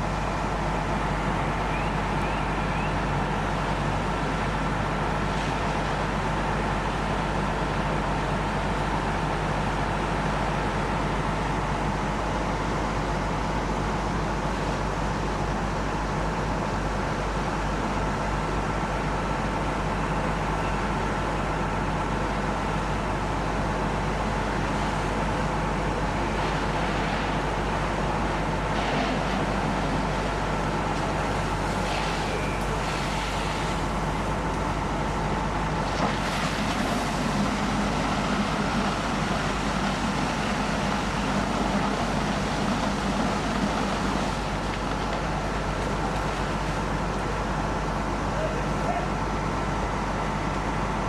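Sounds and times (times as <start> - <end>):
fire truck engines droning: 0.0 - 51.0.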